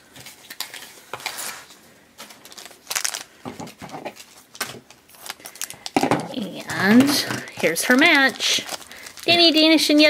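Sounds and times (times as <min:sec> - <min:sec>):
plastic wrapper rustling: 0:00.0 - 0:10.0.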